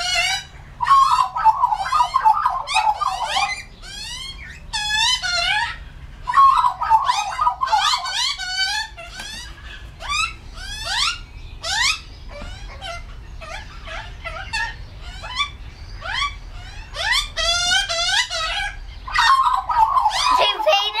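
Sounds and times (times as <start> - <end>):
young magpie squawking calls: 0.0 - 21.0.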